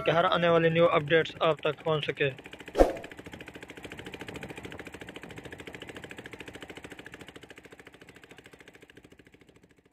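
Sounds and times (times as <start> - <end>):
boat engine chugging: 0.0 - 9.9.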